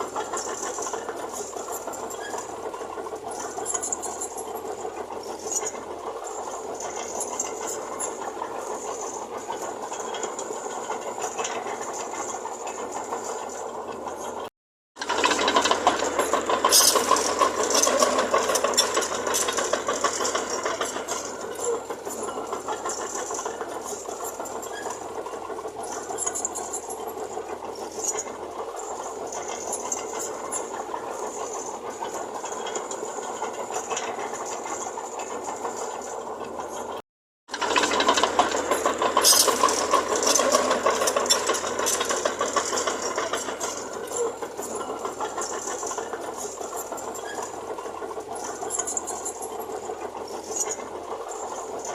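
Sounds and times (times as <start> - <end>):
earthmoving machinery rattling: 0.0 - 51.9.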